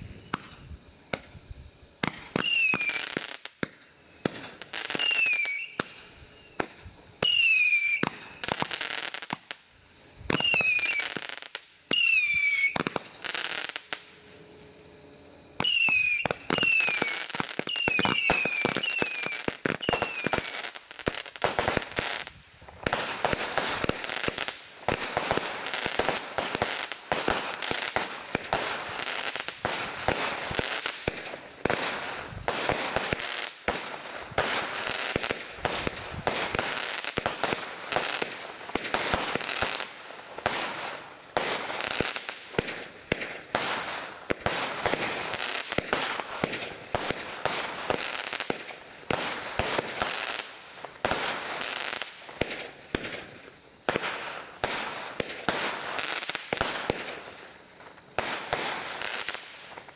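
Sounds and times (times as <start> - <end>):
fireworks cake firing rapid shots: 2.0 - 9.6, 15.6 - 57.4, 58.1 - 59.9.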